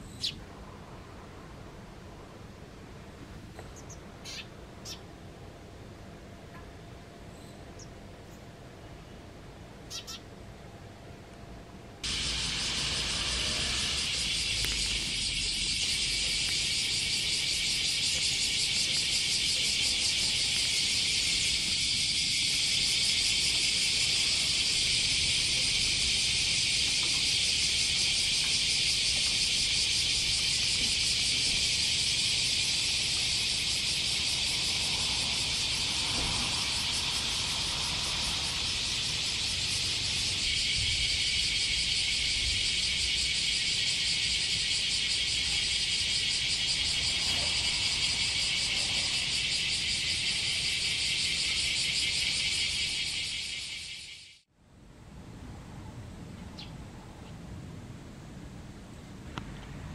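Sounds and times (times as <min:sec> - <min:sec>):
cicadas buzzing: 0:00.0 - 0:02.3, 0:03.0 - 0:08.4, 0:09.4 - 0:10.4, 0:12.0 - 0:54.5.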